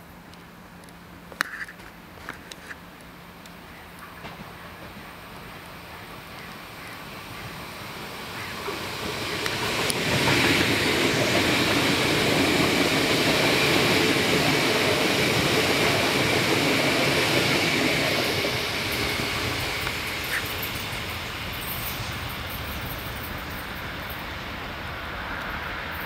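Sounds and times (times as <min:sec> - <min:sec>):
train high whine: 0:00.0 - 0:26.0
train wheels rumbling on rails: 0:01.7 - 0:26.0.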